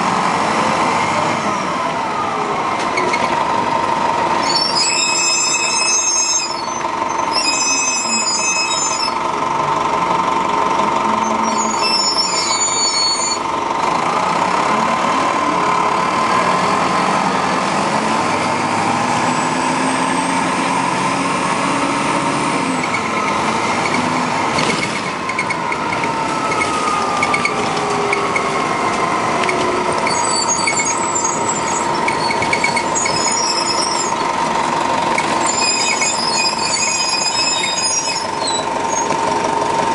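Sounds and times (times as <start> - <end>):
bus diesel engine: 0.0 - 39.9
road noise: 0.0 - 39.9.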